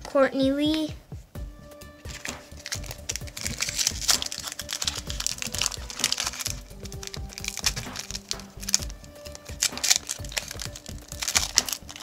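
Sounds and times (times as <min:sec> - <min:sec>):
background music: 0:00.0 - 0:12.0
cards clicking and foil crinkling: 0:02.0 - 0:12.0.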